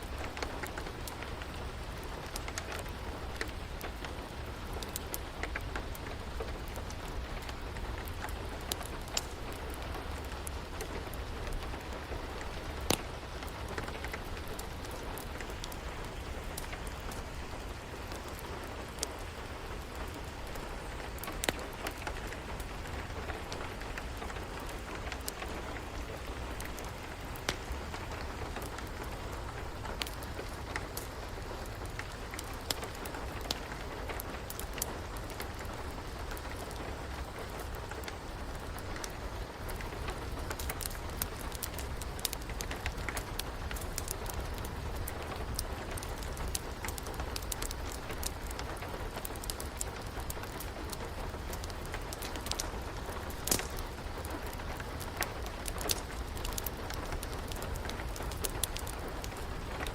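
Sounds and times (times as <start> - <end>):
steady rain: 0.0 - 59.9
wood fire crackling: 0.0 - 59.9.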